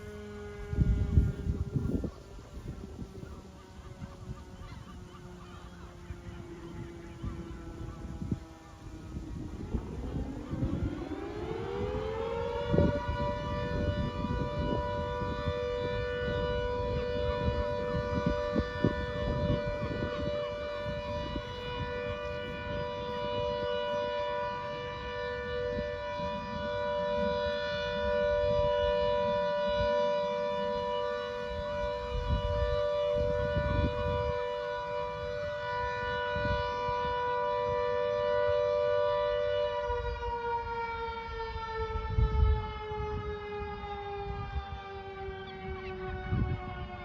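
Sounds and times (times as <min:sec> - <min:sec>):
two-note warning siren: 0:00.0 - 0:47.0.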